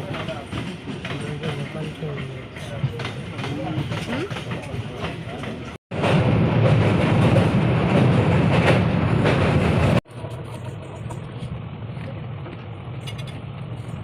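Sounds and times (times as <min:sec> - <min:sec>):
train rumble heard on board: 0:00.0 - 0:14.0.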